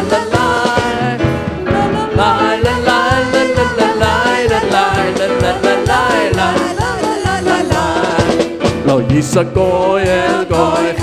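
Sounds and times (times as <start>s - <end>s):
live band playing upbeat song: 0.0s - 11.0s
steady drum beat: 0.0s - 11.0s
voices singing: 0.0s - 11.0s.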